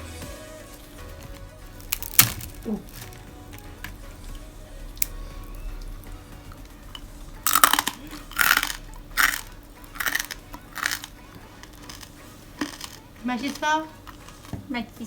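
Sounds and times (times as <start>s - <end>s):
person chewing crunchy food: 1.1s - 14.7s.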